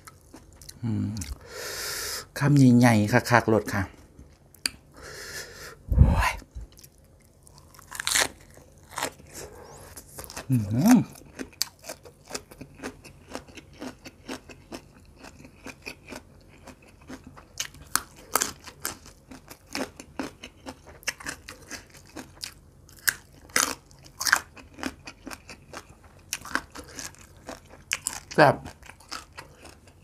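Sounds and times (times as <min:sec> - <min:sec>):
person chewing food: 0:00.0 - 0:01.6, 0:05.8 - 0:30.0.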